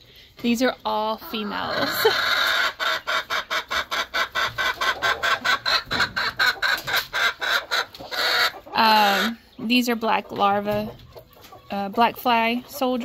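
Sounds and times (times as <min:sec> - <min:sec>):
poultry clucking: 0:00.4 - 0:13.0.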